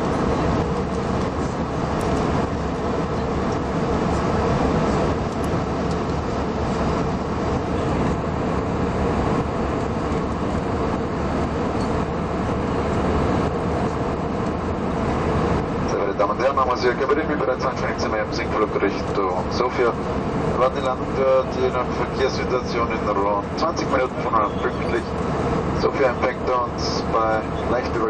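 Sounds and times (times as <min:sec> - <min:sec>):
airliner cabin engine roar: 0:00.0 - 0:28.0.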